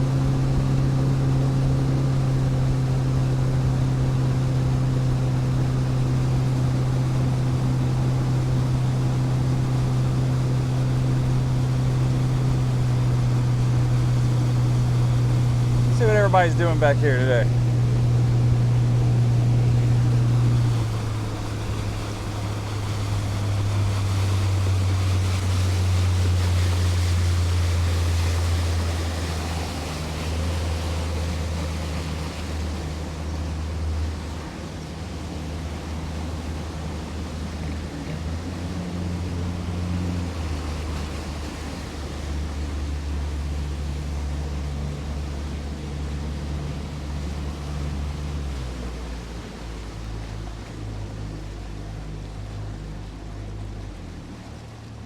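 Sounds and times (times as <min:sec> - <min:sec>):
boat motor running: 0:00.0 - 0:55.0
water rushing past hull: 0:00.0 - 0:55.0.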